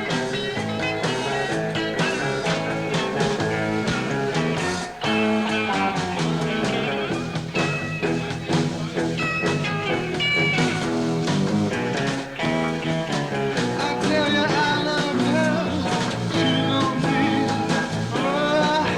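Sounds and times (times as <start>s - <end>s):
live rock band instrumental: 0.0s - 18.9s.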